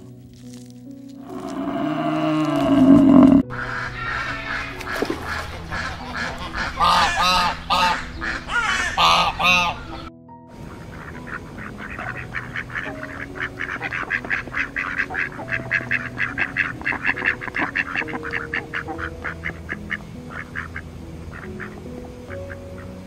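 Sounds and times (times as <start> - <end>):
ducks quacking: 1.3 - 23.0.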